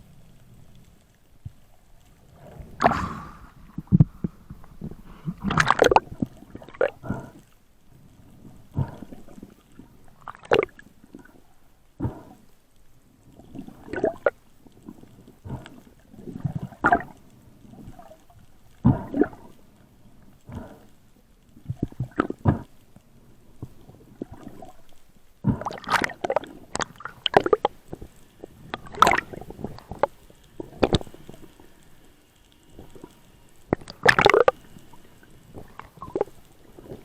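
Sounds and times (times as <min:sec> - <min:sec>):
water splashes and gurgles: 0:00.6 - 0:12.5, 0:13.2 - 0:37.0.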